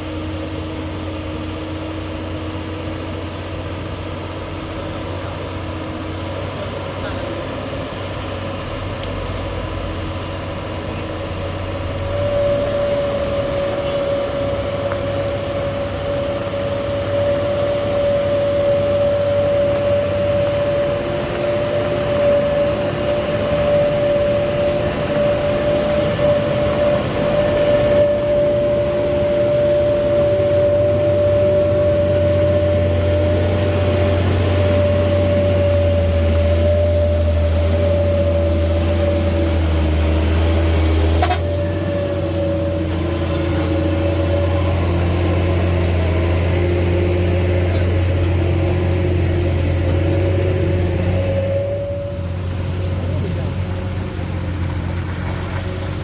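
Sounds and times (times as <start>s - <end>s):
constant engine whine: 0.0s - 56.0s
heavy vehicle engine running: 0.0s - 56.0s.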